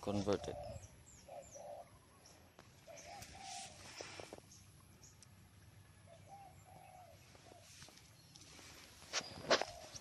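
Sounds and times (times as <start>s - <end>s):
low cooing bird calls: 0.0s - 10.0s.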